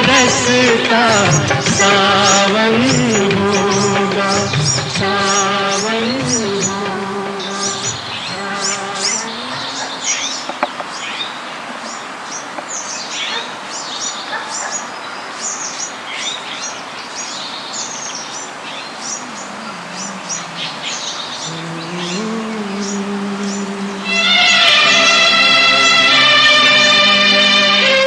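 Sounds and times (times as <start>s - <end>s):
outdoor background hiss: 0.0s - 28.0s
small birds chirping: 0.2s - 24.8s.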